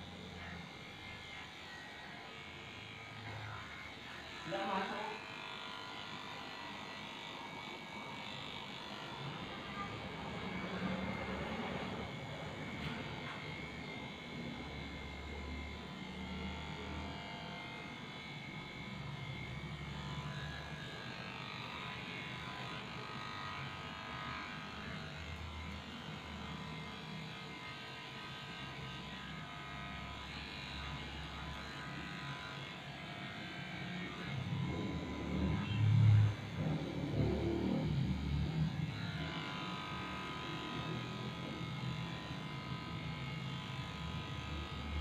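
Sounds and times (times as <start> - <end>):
electric clipper buzzing: 0.0 - 45.0.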